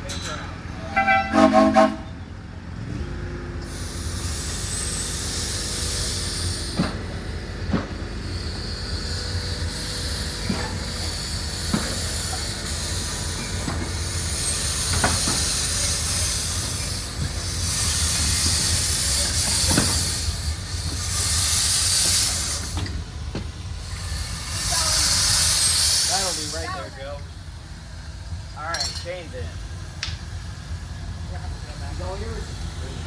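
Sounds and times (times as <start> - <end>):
steam locomotive hissing: 0.0 - 2.4, 3.0 - 33.0.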